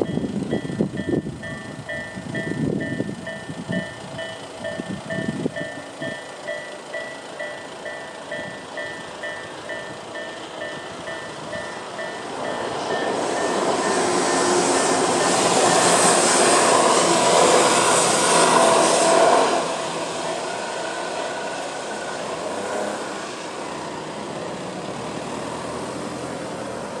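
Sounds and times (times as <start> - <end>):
crossing alarm tones: 0.0 - 22.2
electric train passing: 0.0 - 27.0.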